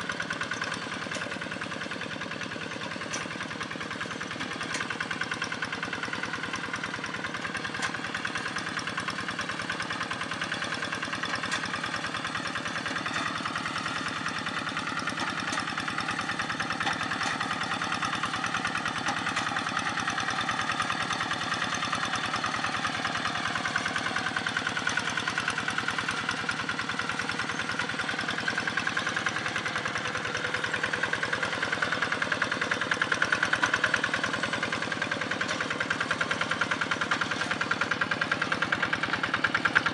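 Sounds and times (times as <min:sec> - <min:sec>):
hand tractor diesel engine running: 0:00.0 - 0:39.9.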